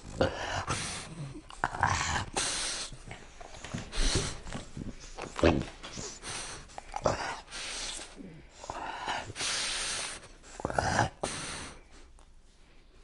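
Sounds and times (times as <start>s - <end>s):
dog grunting: 0.0s - 11.8s
dog breathing and snorting: 0.0s - 12.2s.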